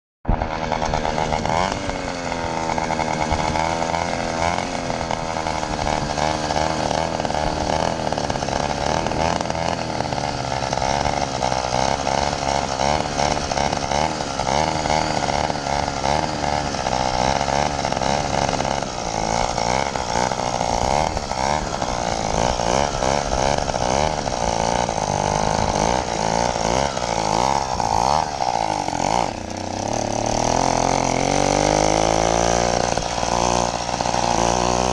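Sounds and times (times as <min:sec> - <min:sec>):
two-stroke engine running: 0:00.3 - 0:34.9.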